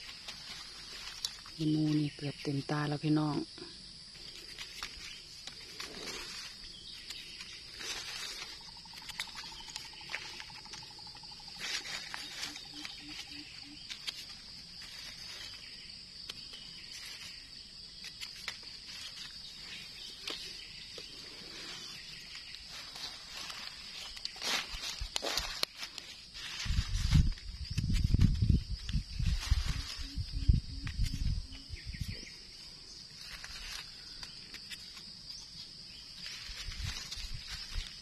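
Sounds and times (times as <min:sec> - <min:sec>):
rustling dry leaves: 0:00.0 - 0:38.0
high-pitched insect buzz: 0:03.0 - 0:20.1, 0:20.7 - 0:38.0.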